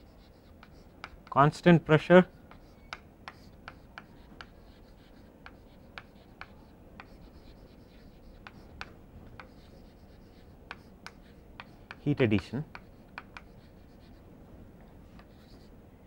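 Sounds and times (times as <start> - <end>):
chalk ticking on chalkboard: 0.0 - 1.5, 2.2 - 14.2.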